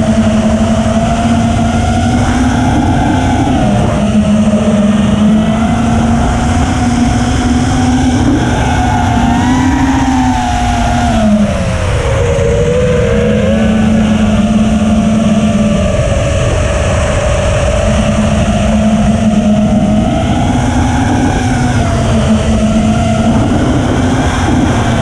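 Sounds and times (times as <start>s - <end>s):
drone motors whining: 0.0s - 25.0s
steady rushing noise: 0.0s - 25.0s.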